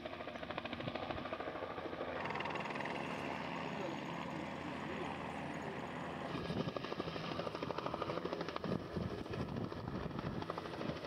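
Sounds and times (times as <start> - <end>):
helicopter engine and rotor: 0.0 - 11.0.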